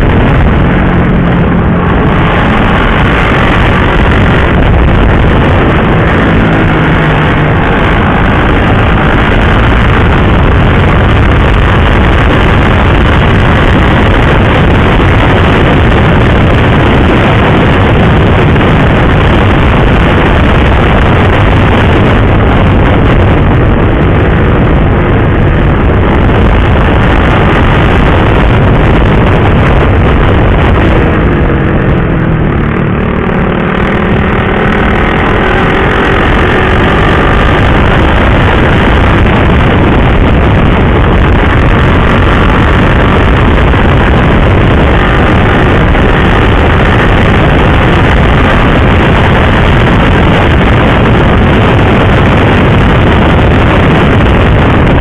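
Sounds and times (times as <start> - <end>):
motorcycle engine running: 0.0 - 55.0
rushing wind noise: 0.0 - 55.0.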